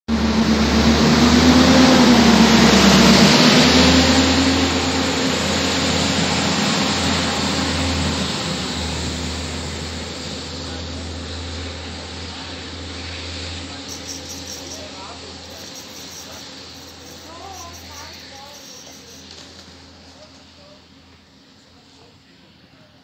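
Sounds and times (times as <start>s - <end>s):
diesel railcar engine: 0.1s - 23.0s.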